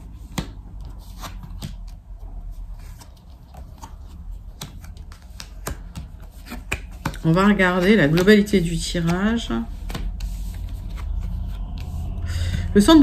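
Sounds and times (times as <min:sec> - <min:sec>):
cards clicking and rustling: 0:00.0 - 0:12.0.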